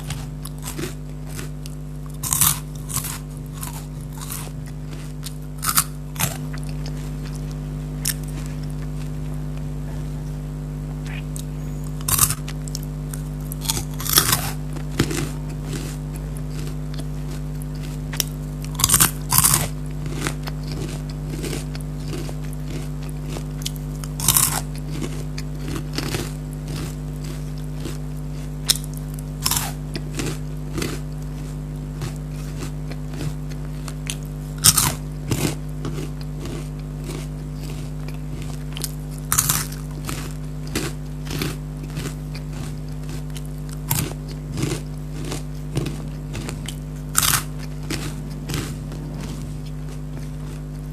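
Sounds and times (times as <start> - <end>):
chewing: 0.0 - 9.7, 10.9 - 50.9
snack crunching: 0.0 - 9.7, 10.9 - 50.9
low hum: 0.0 - 50.9.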